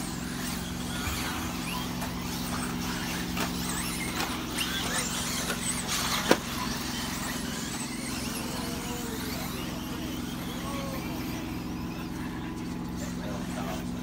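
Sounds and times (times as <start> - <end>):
rc car motor whines: 0.0 - 14.0
steady low hum: 0.0 - 14.0.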